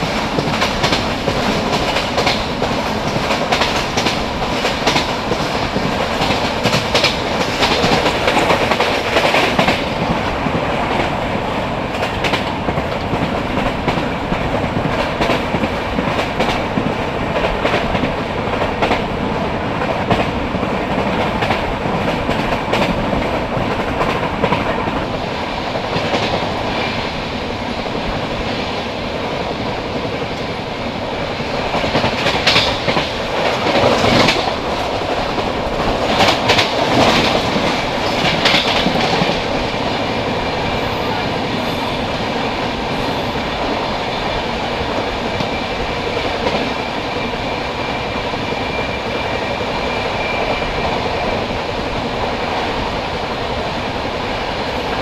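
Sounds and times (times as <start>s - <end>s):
train wheels clattering: 0.0s - 52.7s
oncoming train passing: 0.0s - 55.0s.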